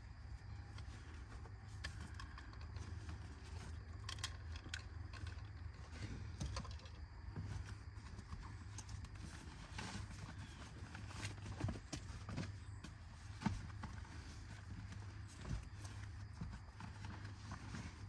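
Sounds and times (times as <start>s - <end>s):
light clicks and rattles: 0.3s - 18.0s.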